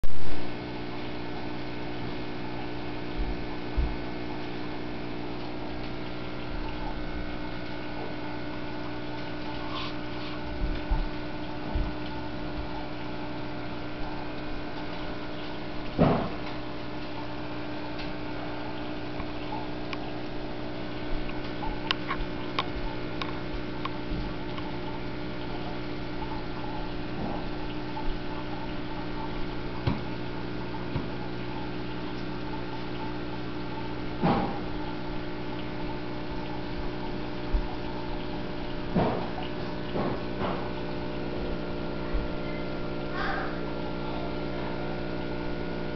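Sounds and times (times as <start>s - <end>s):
aquarium filter humming: 0.0s - 45.9s
running water: 0.2s - 45.9s.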